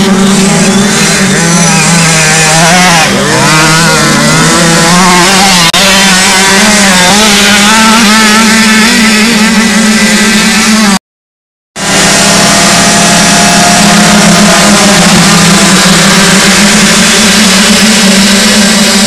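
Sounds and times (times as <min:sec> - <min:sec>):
motocross bikes racing: 0:00.0 - 0:11.0, 0:11.8 - 0:19.0.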